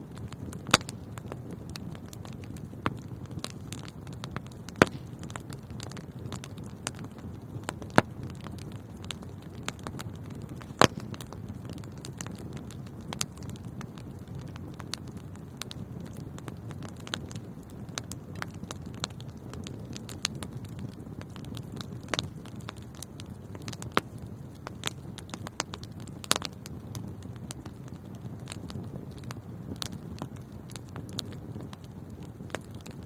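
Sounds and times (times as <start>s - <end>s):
fire crackles and pops: 0.0s - 33.0s
wood fire rumble: 0.0s - 33.0s.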